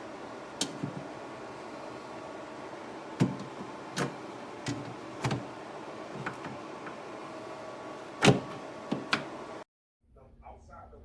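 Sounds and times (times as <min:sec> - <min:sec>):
mini fridge humming: 0:00.0 - 0:09.6.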